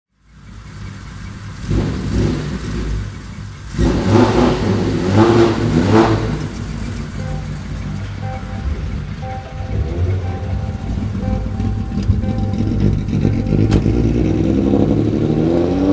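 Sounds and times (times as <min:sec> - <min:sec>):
car engine revving: 0:00.2 - 0:15.9.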